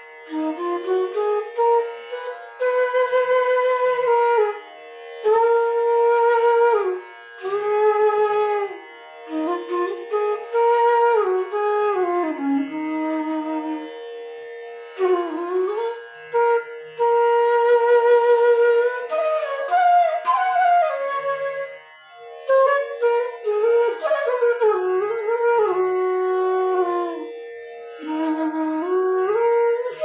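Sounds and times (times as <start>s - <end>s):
bamboo flute melody: 0.0s - 14.1s, 14.9s - 30.0s.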